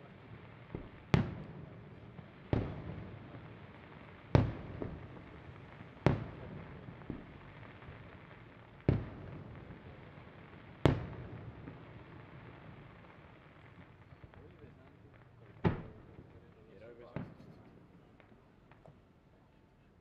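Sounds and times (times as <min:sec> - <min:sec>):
faint firework pops: 0:00.0 - 0:19.9.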